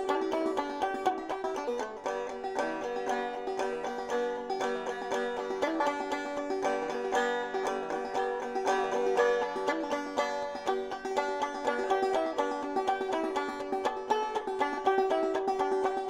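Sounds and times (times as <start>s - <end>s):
bluegrass string picking music: 0.0s - 16.0s.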